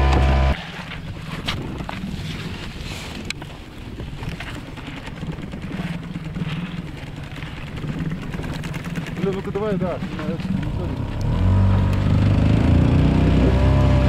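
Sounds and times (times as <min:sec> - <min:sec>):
outboard motor idling: 0:00.0 - 0:14.0
slush ice grinding on hull: 0:00.0 - 0:14.0.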